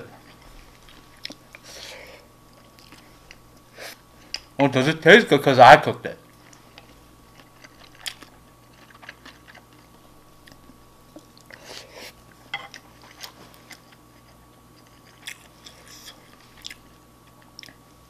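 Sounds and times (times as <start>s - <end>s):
chewing food: 0.1s - 1.7s, 2.5s - 4.5s, 6.3s - 17.9s.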